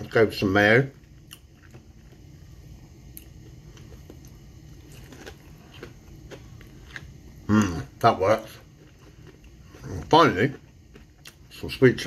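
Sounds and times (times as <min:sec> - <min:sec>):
low steady hum: 0:00.0 - 0:12.0
person chewing fried chicken: 0:01.0 - 0:11.6.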